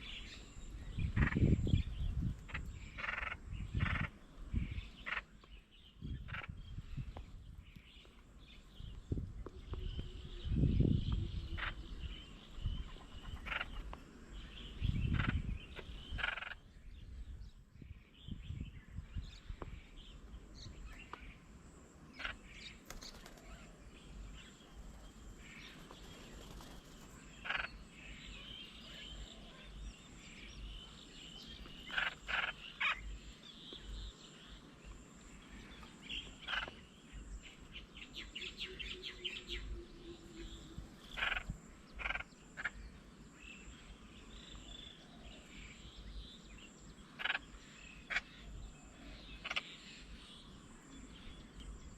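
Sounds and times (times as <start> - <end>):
birds chirping: 0.0 - 51.9
faint outdoor background: 0.0 - 51.9.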